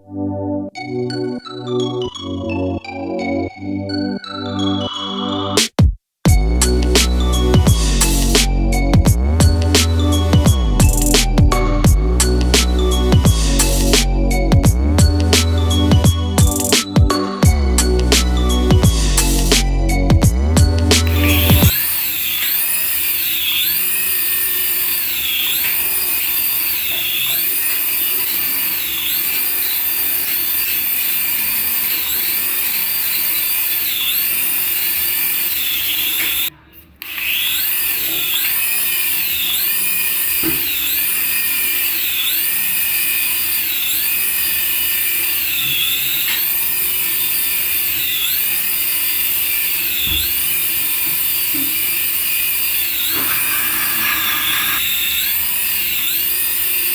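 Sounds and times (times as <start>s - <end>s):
toy motor high-pitched whine: 6.6s - 11.4s, 12.2s - 56.9s.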